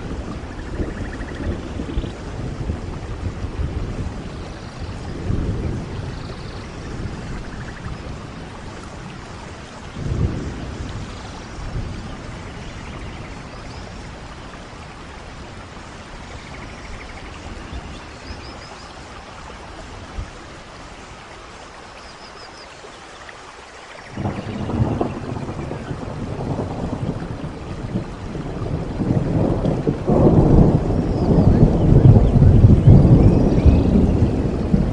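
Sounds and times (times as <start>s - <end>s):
distant thunder rumbles: 0.0s - 20.9s, 24.0s - 34.9s
steady rainfall: 0.0s - 34.9s.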